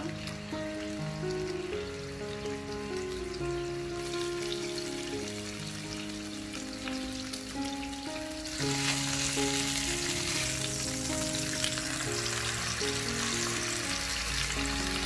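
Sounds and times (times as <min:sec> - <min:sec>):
fish sizzling in butter: 0:00.0 - 0:15.0.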